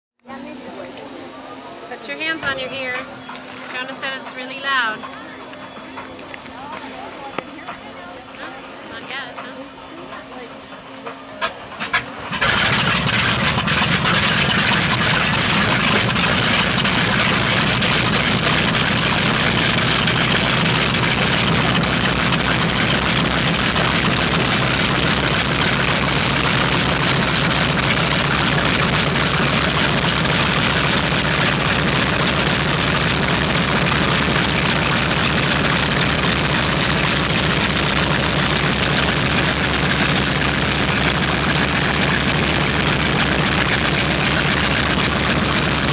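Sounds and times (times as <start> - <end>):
radial aircraft engine idling: 0.2 - 45.9.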